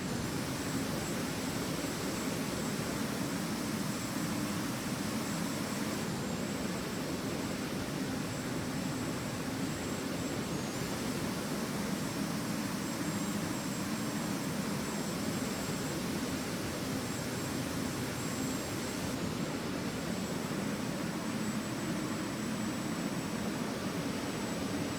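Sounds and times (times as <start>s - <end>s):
jet airliner engines: 0.0s - 24.9s.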